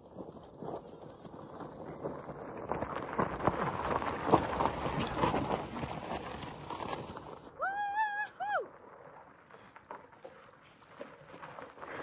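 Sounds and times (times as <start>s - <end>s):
bike tyres crunching gravel: 0.0s - 12.0s.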